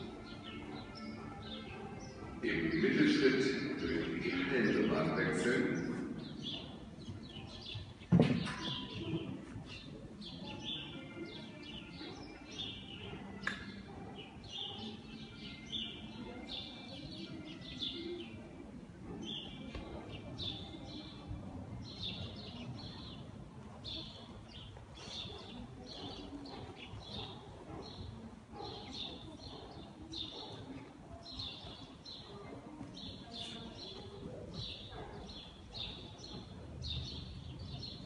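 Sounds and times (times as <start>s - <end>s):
low background noise: 0.0s - 38.0s
small birds chirping: 3.2s - 18.4s, 19.2s - 38.0s.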